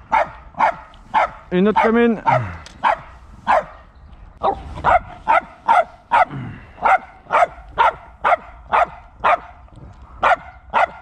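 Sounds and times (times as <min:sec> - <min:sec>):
dog barking: 0:00.1 - 0:03.8, 0:04.4 - 0:09.5, 0:10.2 - 0:11.0.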